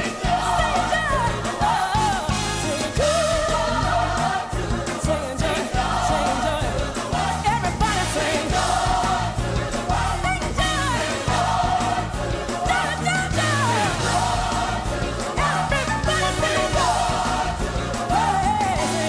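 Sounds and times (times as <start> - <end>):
gospel choir singing: 0.0 - 19.0
steady bass line: 0.0 - 19.0.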